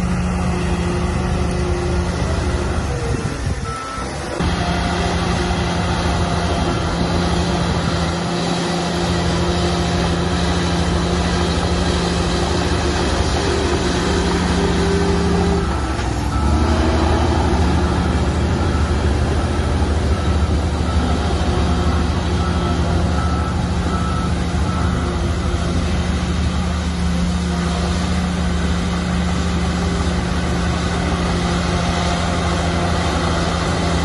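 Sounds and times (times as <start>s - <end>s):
diesel earthmoving machinery running: 0.0s - 34.0s.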